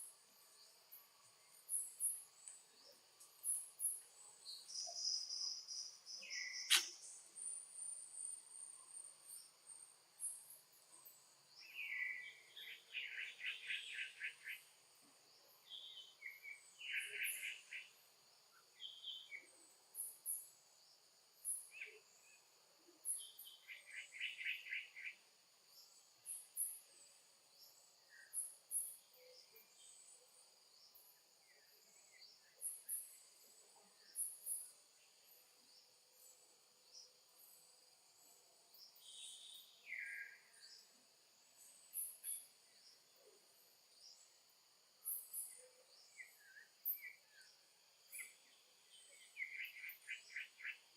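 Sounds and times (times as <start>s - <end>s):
insects buzzing and chirping: 0.0s - 50.9s.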